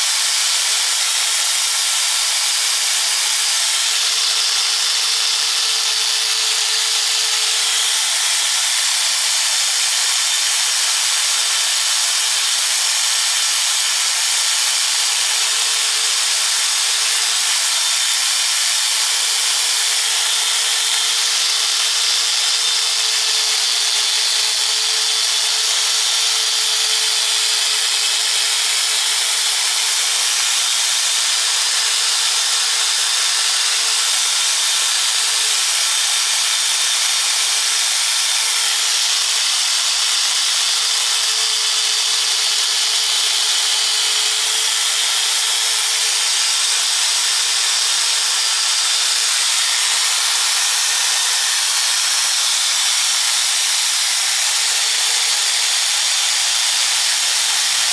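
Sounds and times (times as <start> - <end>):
machine hissing loudly: 0.0 - 57.9.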